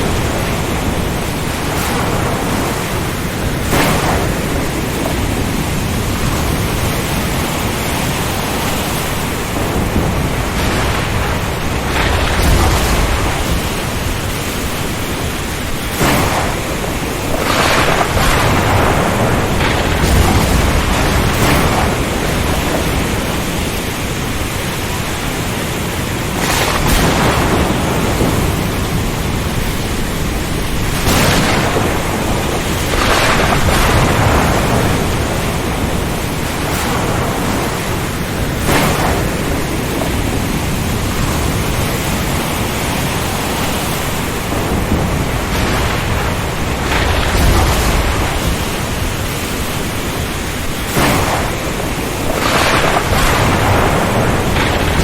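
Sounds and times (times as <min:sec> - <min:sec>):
rain: 0:00.0 - 0:55.0
sea surges: 0:00.0 - 0:55.0
wind: 0:00.0 - 0:55.0.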